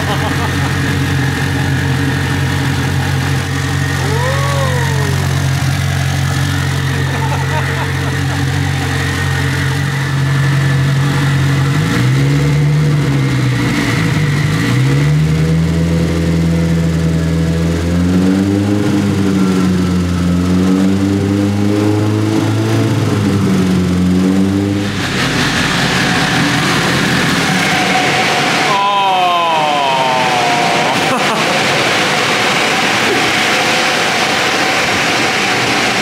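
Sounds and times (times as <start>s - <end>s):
turbo engine revving: 0.0s - 36.0s.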